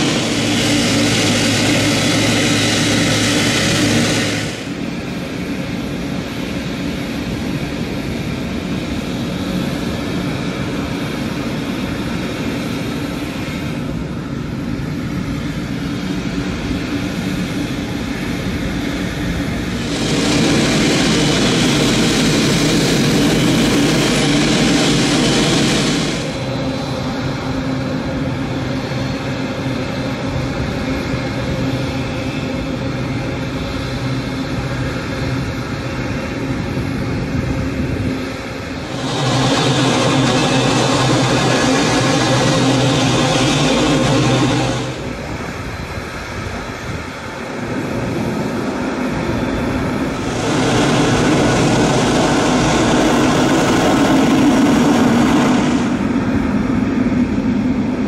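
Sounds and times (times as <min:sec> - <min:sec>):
jet engines idling with whine: 0:00.0 - 0:58.0.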